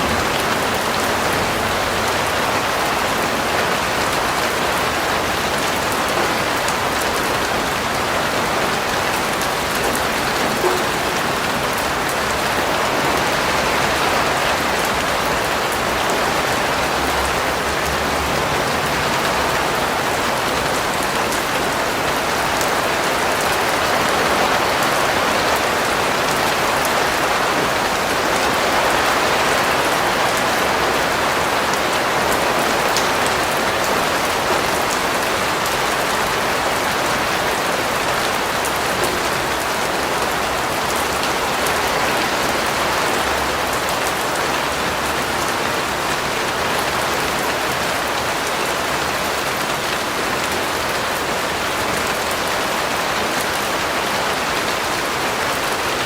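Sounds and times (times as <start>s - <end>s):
rain on a surface: 0.0s - 56.0s.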